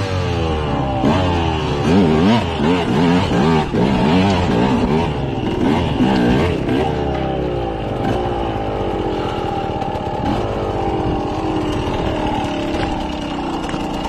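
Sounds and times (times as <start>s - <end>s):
off-road motorcycle engine: 0.0s - 14.0s.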